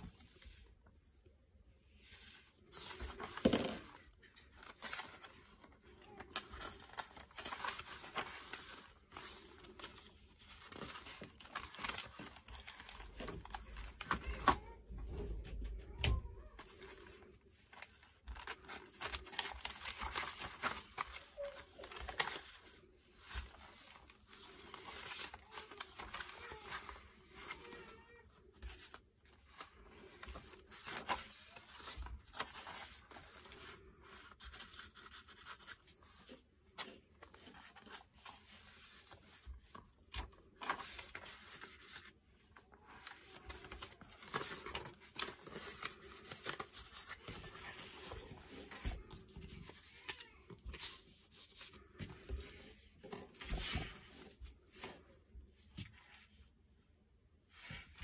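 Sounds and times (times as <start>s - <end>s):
paper pages rustling: 1.9s - 56.5s.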